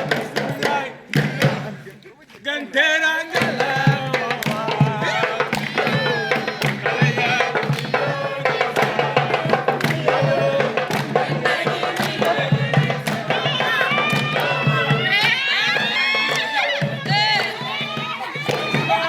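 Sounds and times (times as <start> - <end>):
fast percussion beat: 0.0 - 2.0, 3.2 - 19.0
young voices singing together: 0.0 - 19.0.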